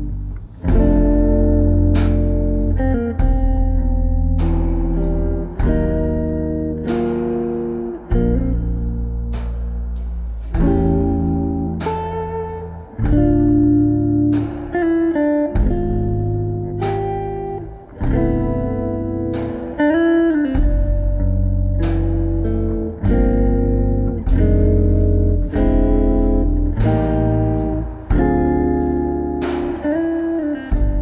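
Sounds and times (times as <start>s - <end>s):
bass: 0.0s - 31.0s
drums: 0.0s - 31.0s
jazz guitar chords and melody: 0.0s - 31.0s.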